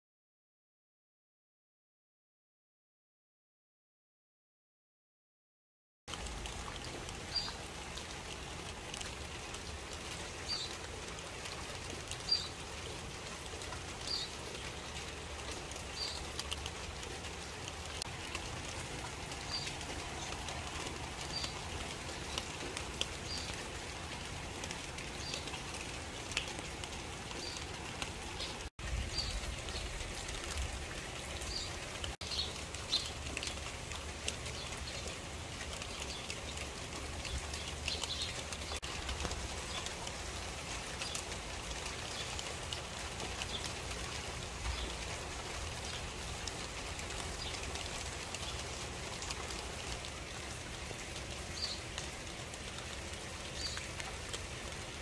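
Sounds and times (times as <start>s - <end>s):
steady rain falling: 6.1s - 55.0s.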